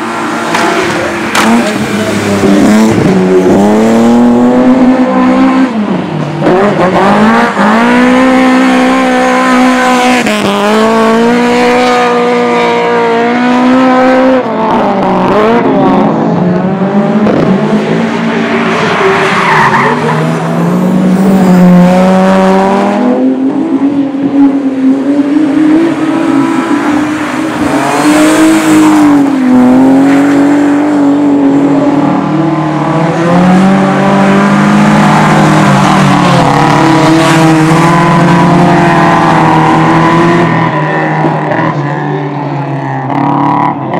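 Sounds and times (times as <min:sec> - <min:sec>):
racing car engines revving: 0:00.0 - 0:43.9.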